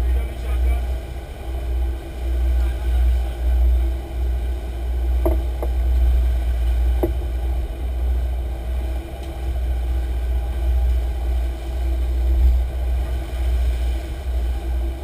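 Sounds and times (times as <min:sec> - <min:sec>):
boat engines rumbling: 0:00.0 - 0:15.0
faint steady hum: 0:00.0 - 0:15.0.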